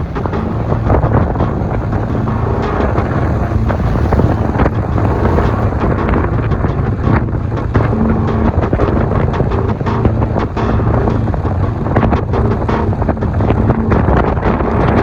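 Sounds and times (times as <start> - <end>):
car engine and road rumble: 0.0 - 15.0
wind noise on microphone: 0.0 - 15.0.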